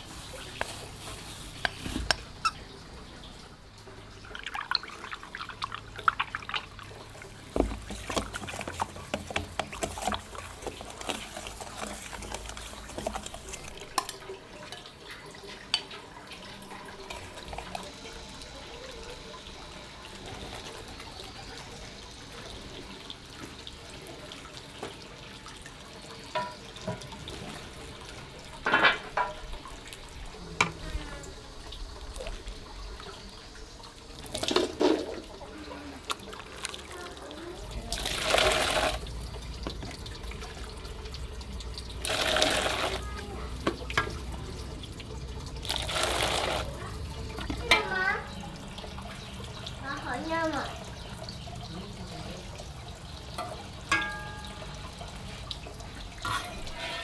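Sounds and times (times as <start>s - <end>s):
water splashing and pouring: 0.0s - 57.0s.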